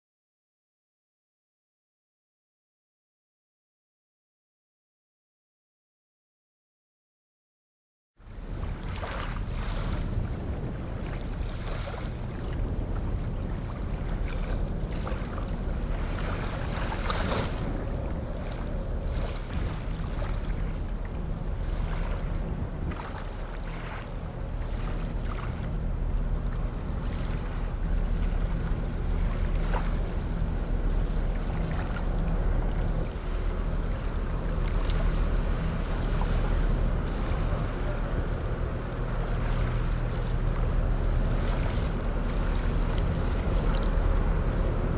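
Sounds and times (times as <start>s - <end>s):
ship engines droning: 8.2s - 44.9s
wind buffeting microphone: 8.2s - 44.9s.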